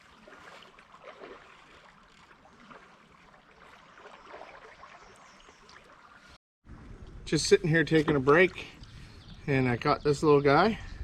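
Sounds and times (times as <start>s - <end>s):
river water trickling: 0.0s - 9.6s.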